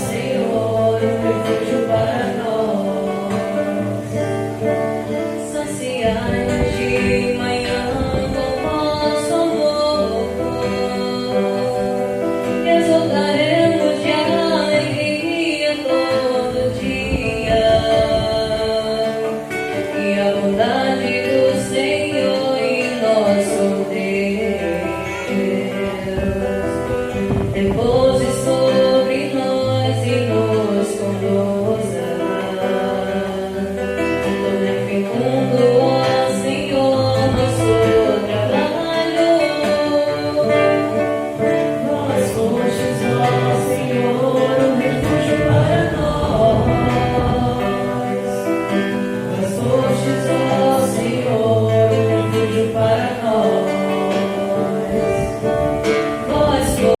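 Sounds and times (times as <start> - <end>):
guitar: 0.0 - 57.0
people singing: 0.0 - 57.0.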